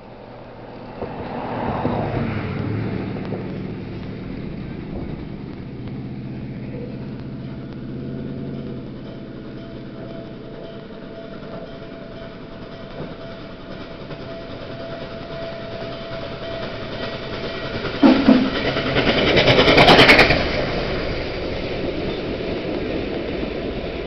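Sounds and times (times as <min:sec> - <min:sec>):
rapid exhaust beats: 0:00.1 - 0:24.0.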